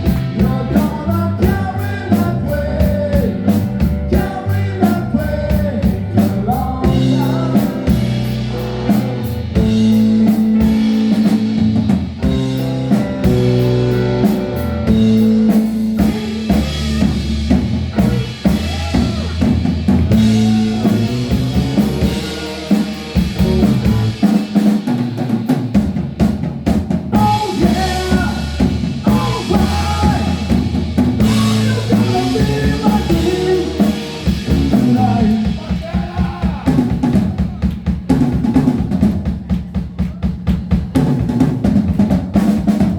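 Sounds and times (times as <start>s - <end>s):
rock music: 0.0s - 42.9s.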